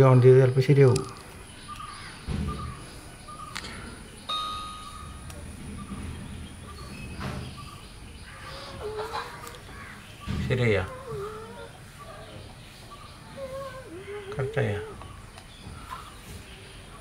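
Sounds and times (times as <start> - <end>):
faint bird chirps: 1.4 - 17.0.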